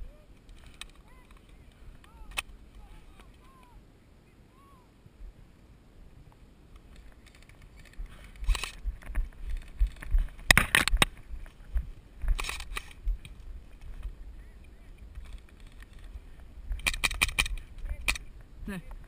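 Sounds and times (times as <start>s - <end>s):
dry shrubs rustling and scraping: 0.0s - 4.4s, 5.0s - 19.0s.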